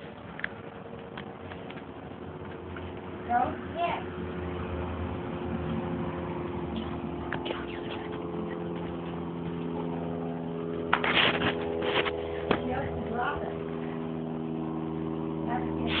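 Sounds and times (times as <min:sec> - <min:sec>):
motor hum with pitched tones: 0:00.0 - 0:16.0.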